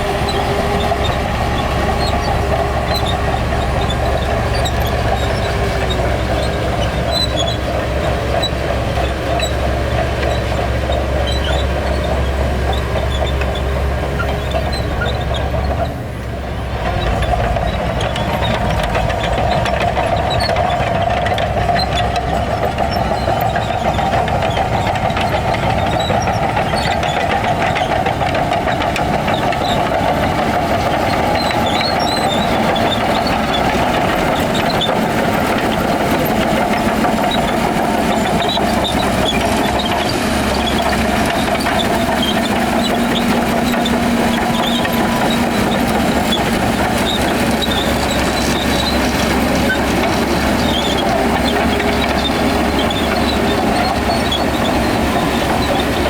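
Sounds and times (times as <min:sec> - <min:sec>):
heavy machinery diesel engine drone: 0:00.0 - 0:56.0.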